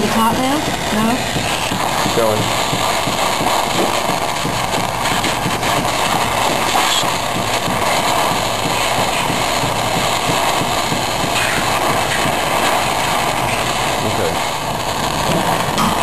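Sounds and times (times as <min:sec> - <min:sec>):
torch flame rushing: 0:00.0 - 0:16.0.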